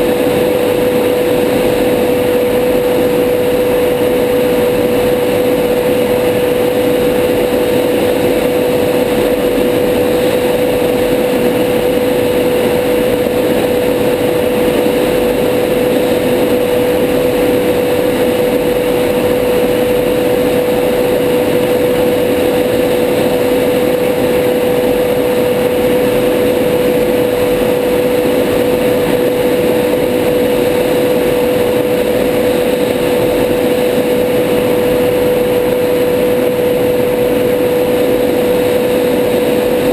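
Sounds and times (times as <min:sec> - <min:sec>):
constant mid-pitched hum: 0:00.0 - 0:39.9
jet engine and air rush: 0:00.0 - 0:39.9.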